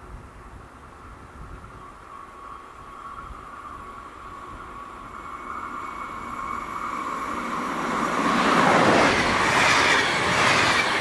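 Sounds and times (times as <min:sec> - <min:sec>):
distant electric train approaching: 0:00.7 - 0:11.0.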